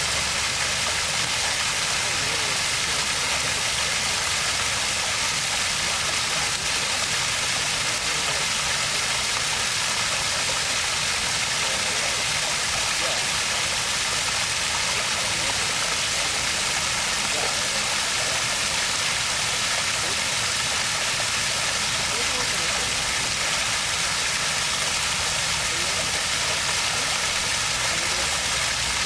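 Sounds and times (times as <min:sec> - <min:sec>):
water stream rushing: 0:00.0 - 0:29.0.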